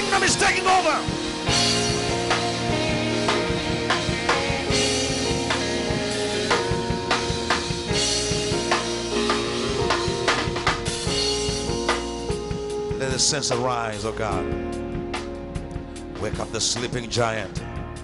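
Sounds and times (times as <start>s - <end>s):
drum kit steady beat: 0.0s - 18.0s
held chords: 0.0s - 18.0s.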